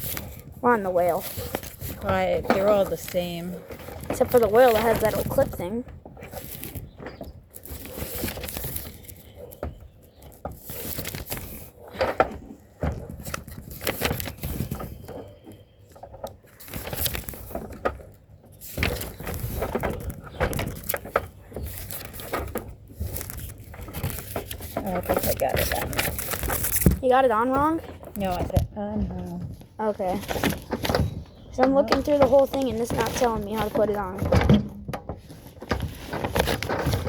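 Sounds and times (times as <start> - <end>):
plastic parts knocking and clicking: 0.0 - 37.0
rustling: 0.0 - 37.0.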